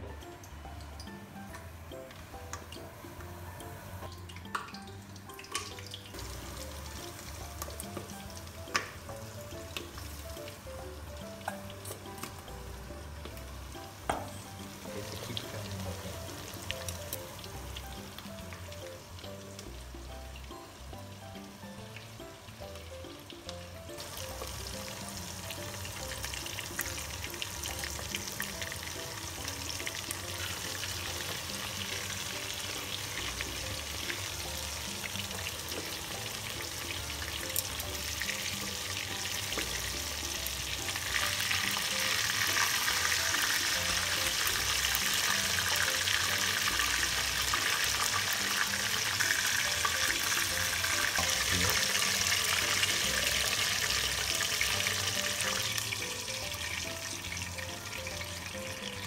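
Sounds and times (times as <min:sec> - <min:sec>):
chicken frying in oil: 0:02.1 - 0:59.0.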